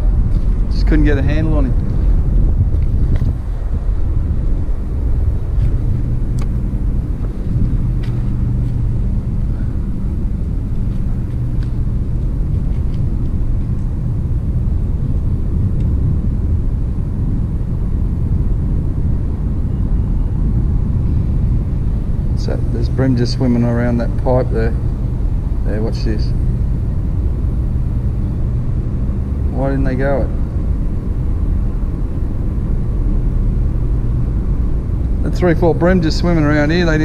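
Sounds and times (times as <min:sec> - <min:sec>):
engine rumble: 0:00.0 - 0:37.0.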